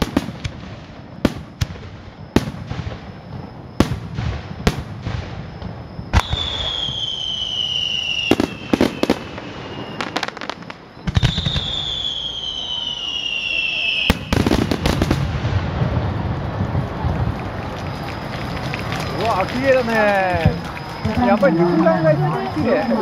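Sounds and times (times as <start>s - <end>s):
falling firework whistle: 0.0s - 22.9s
fireworks bursting: 0.0s - 23.0s.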